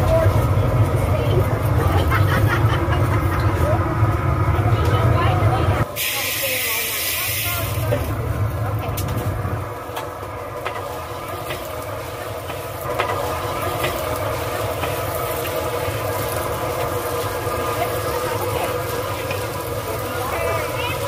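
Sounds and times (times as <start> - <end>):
gas burner running: 0.0 - 21.0
popcorn kernels sizzling in oil: 0.0 - 21.0.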